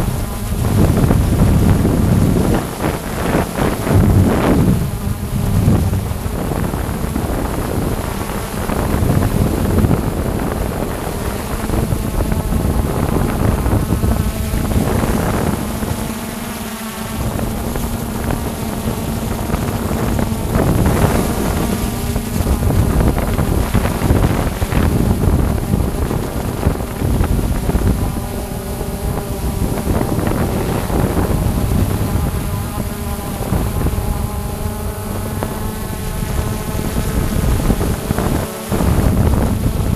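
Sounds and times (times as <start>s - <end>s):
drone propellers whirring: 0.0s - 39.9s
wind buffeting microphone: 0.0s - 39.9s.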